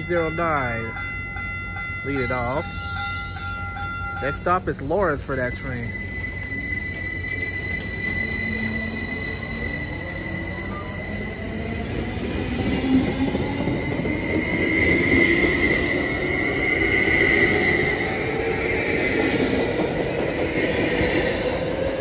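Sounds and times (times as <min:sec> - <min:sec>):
steady high tone: 0:00.0 - 0:22.0
train wheels rumbling on rails: 0:00.0 - 0:22.0.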